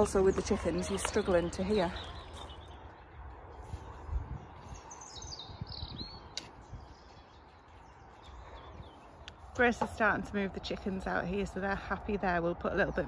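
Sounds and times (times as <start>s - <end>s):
songbird chirping: 0.0s - 13.0s
wind rumbling on microphone: 0.0s - 13.0s.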